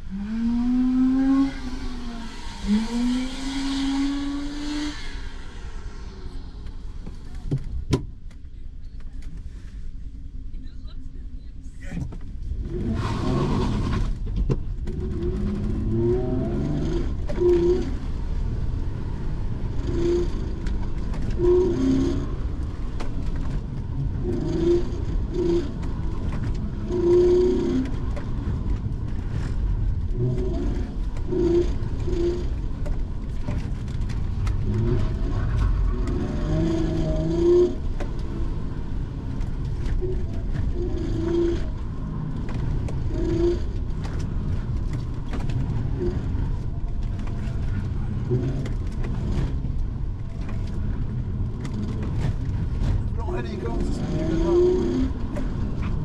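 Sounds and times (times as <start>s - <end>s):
car engine revving: 0.0s - 7.8s, 12.5s - 56.0s.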